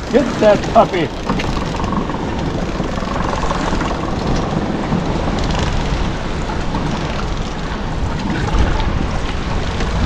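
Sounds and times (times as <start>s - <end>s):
boat motor rumbling: 0.0s - 10.0s
water noise: 0.0s - 10.0s
wind: 0.0s - 10.0s.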